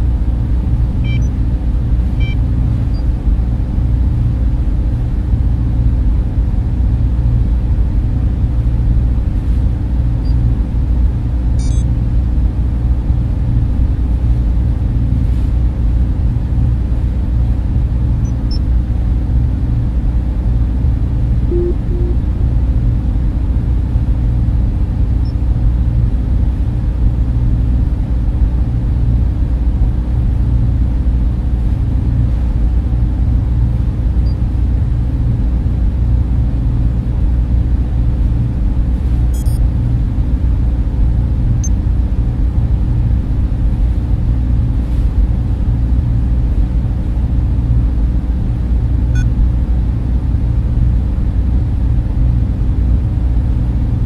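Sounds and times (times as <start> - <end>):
cooling fans humming: 0.0 - 54.0.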